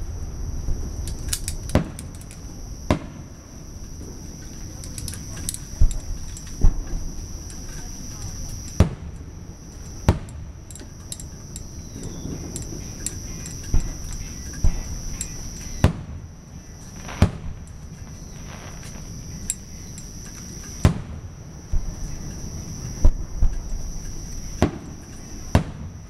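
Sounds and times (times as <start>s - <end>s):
crickets chirring: 0.0s - 26.0s
fireworks bursting with booms: 0.0s - 26.0s.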